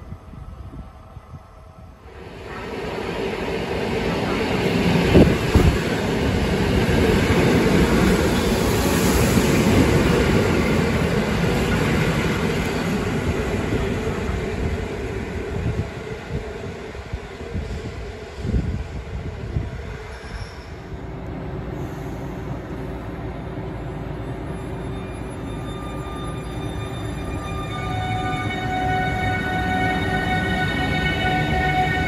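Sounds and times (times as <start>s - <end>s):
train wheel and rail noise: 0.0s - 32.0s.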